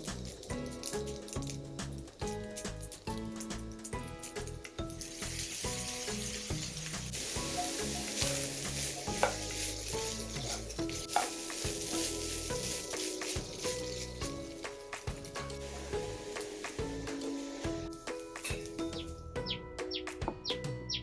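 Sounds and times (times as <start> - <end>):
food sizzling in oil: 0.0 - 17.7
background music: 0.0 - 21.0.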